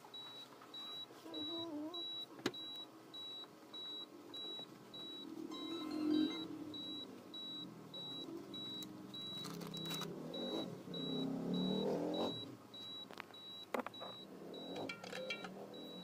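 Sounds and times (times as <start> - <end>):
high electronic beeps: 0.8 - 16.0.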